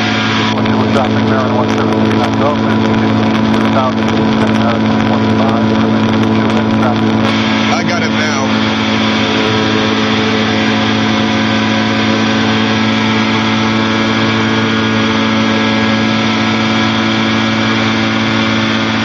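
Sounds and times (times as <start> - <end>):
air rushing in cockpit: 0.0 - 19.0
aircraft engine running: 0.0 - 19.0.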